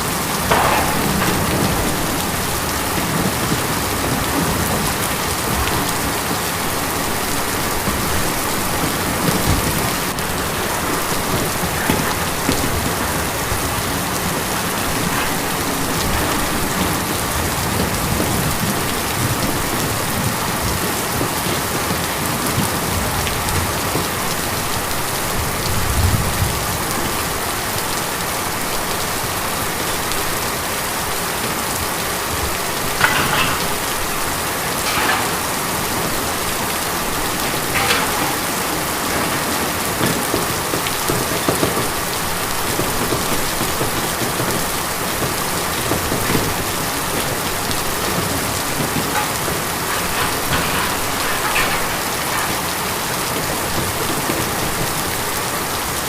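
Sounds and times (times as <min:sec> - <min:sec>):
rain drumming on a tin roof: 0:00.0 - 0:56.0.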